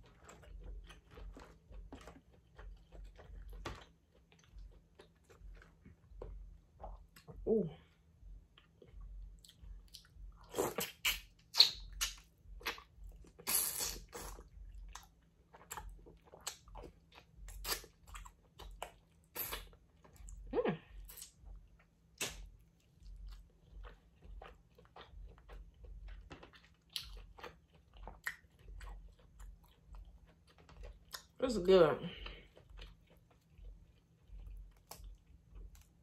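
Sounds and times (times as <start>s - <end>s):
person chewing and crunching: 0.0s - 31.4s, 32.1s - 36.0s.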